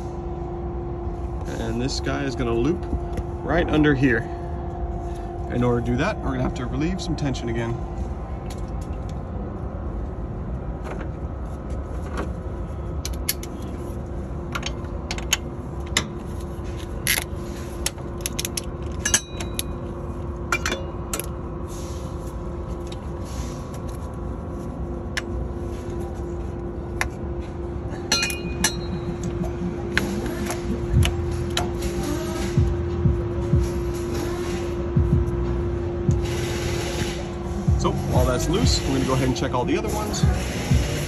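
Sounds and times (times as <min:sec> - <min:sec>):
low drone: 0:00.0 - 0:41.0.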